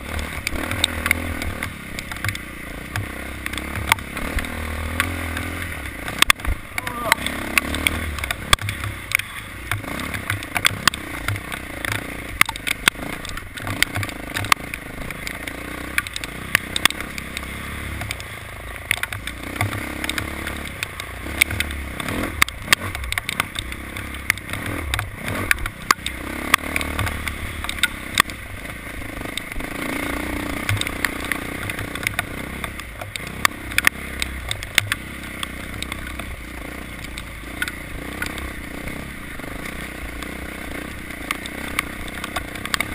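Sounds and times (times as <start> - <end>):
sharp clicks and rattles: 0.0 - 42.9
vehicle engine rumble: 0.0 - 42.9.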